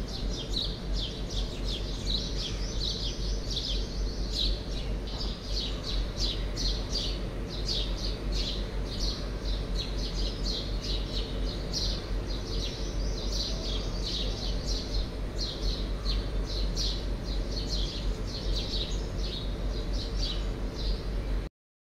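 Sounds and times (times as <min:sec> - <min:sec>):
birds chirping: 0:00.0 - 0:21.5
steady low hum: 0:00.0 - 0:21.5.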